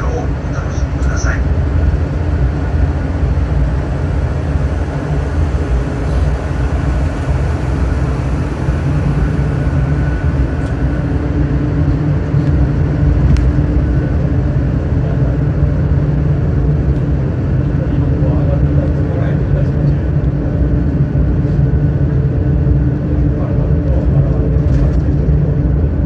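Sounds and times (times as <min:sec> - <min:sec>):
cable car rumbling on rails: 0:00.0 - 0:26.0
faint hum: 0:00.0 - 0:26.0.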